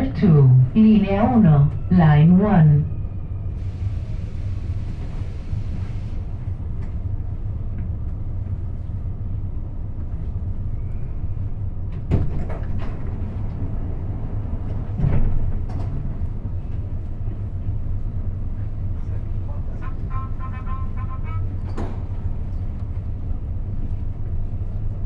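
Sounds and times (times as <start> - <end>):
train cabin low hum: 0.0 - 25.0.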